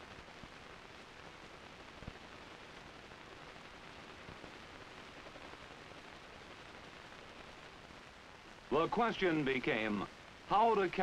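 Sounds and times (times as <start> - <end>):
film soundtrack hiss: 0.0 - 11.0.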